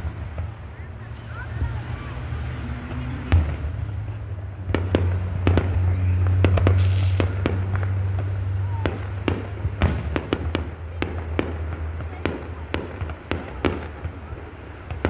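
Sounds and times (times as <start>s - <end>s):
fireworks cracking and popping: 0.0s - 15.0s
firework bang: 2.9s - 15.0s.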